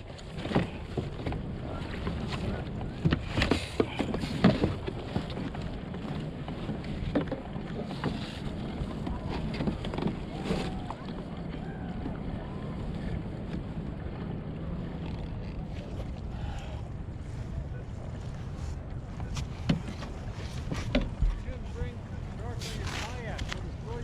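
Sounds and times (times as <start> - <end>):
water moving around kayak: 0.0 - 24.0
wind buffeting microphone: 0.0 - 24.0.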